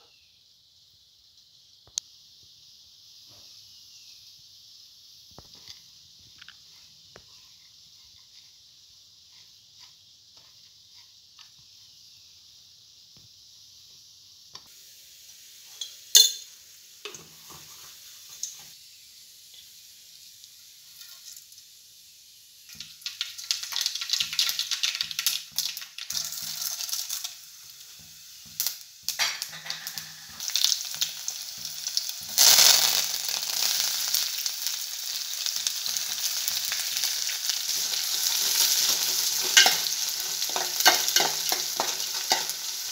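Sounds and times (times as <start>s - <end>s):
sizzling of frying food: 0.0s - 42.9s
hot oil crackling and popping: 0.1s - 42.9s.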